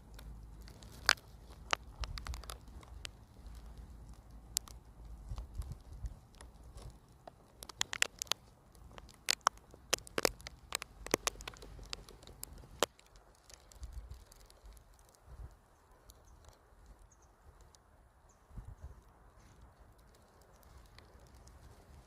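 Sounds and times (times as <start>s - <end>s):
sharp clicks and crackles: 0.0s - 17.9s, 18.7s - 22.0s
faint low rumble: 0.0s - 22.0s.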